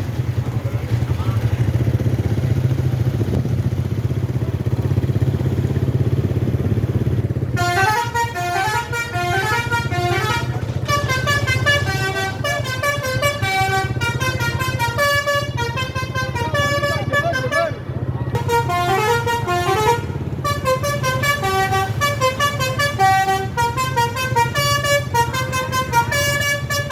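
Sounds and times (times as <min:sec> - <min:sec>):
engine running: 0:00.0 - 0:26.9
multi-tone bus horn tune: 0:04.0 - 0:26.9.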